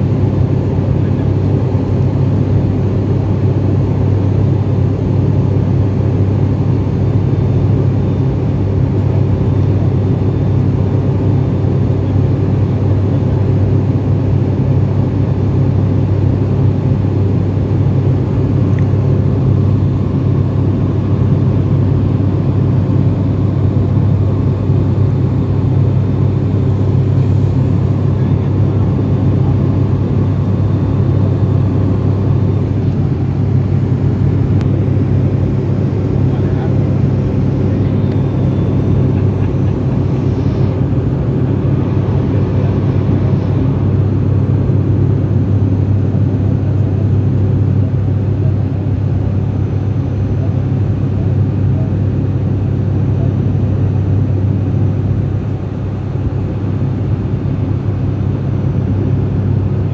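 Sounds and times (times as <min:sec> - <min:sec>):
propeller plane cabin drone: 0:00.0 - 0:59.9.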